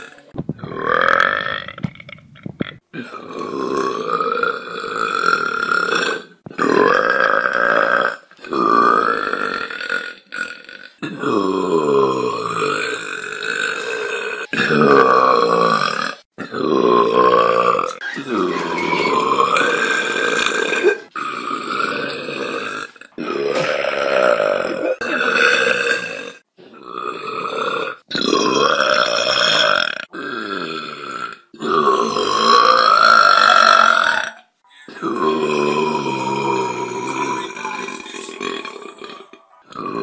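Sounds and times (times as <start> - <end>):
woman burping: 0.0 - 40.0.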